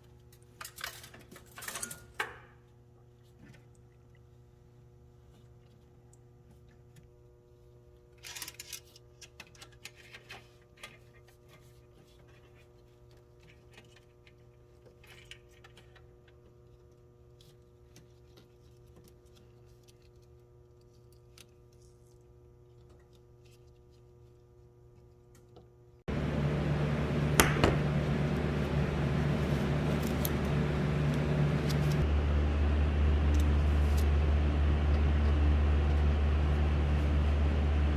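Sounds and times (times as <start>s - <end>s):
faint steady hum: 2.0s - 37.9s.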